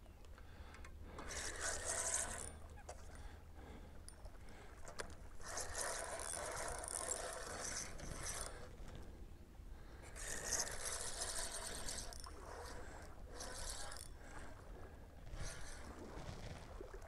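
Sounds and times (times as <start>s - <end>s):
fishing reel cranking: 1.1s - 3.2s, 3.9s - 9.0s, 10.0s - 16.7s.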